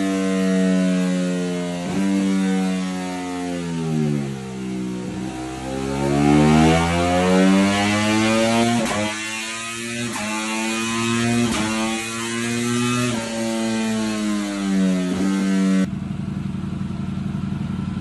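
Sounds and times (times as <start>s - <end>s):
motorcycle engine revving: 0.0s - 18.0s
sharp exhaust cracks: 1.0s - 17.8s.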